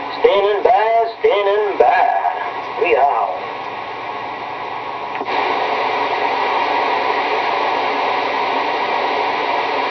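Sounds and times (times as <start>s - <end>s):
radio static hiss: 0.0s - 9.9s.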